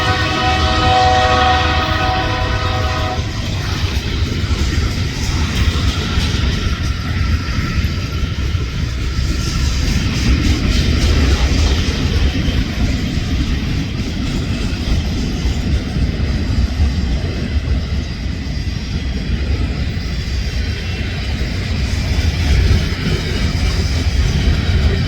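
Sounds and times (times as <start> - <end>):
freight train rumbling by: 0.0 - 25.0.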